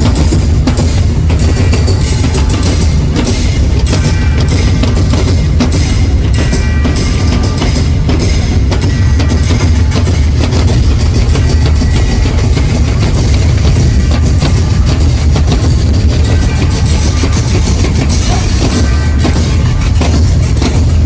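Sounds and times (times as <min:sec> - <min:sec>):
heavy continuous bass: 0:00.0 - 0:21.0
loud fast group drumming: 0:00.0 - 0:21.0.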